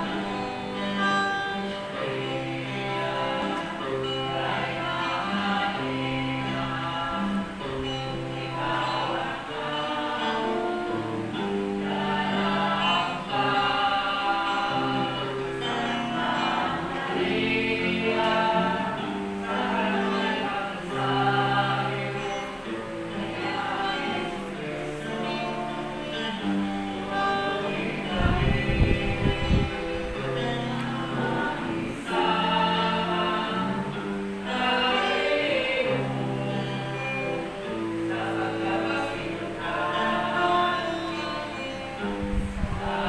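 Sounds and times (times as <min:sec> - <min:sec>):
choir singing slowly: 0:00.0 - 0:43.0.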